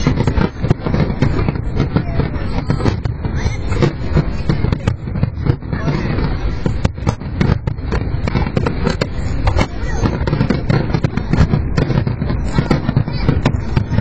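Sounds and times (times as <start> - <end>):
firework shells bursting: 0.0 - 14.0.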